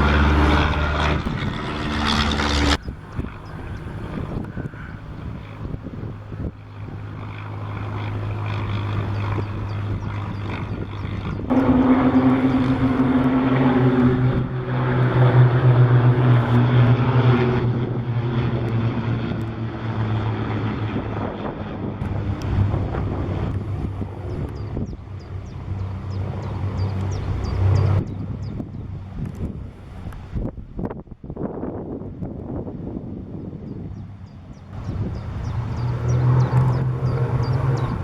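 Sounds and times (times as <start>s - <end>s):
propeller aircraft droning overhead: 0.0s - 38.0s
propeller planes passing close: 0.0s - 38.0s.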